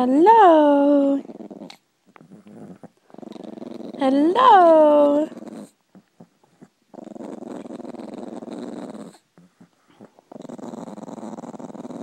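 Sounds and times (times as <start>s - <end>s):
dog growling: 0.3s - 12.0s.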